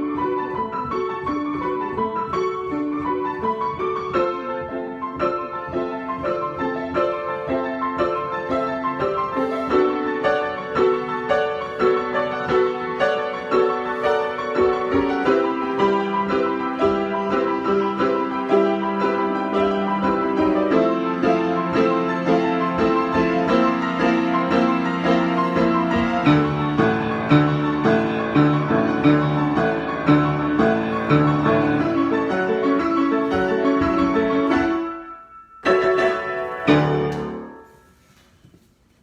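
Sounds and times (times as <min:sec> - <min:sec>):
solo piano: 0:00.0 - 0:39.0.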